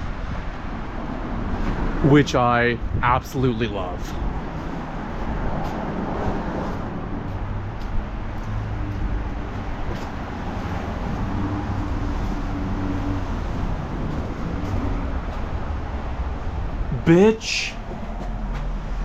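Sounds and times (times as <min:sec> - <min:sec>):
wind buffeting microphone: 0:00.0 - 0:17.0
street traffic: 0:00.0 - 0:19.0
vehicle engine hum: 0:02.8 - 0:19.0.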